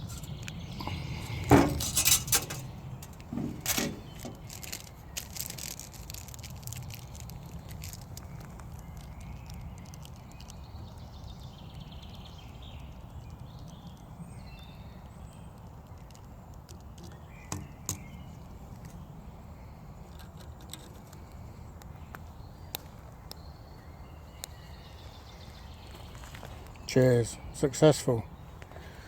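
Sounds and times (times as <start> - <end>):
birds chirping: 0.0 - 5.8, 6.7 - 29.0.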